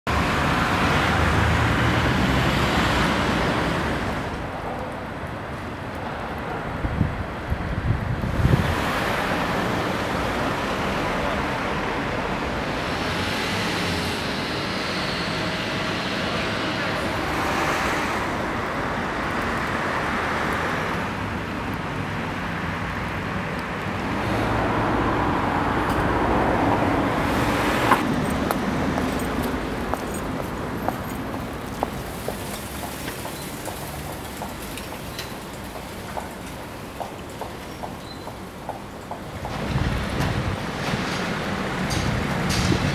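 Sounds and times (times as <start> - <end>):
road traffic rushing: 0.1 - 42.9.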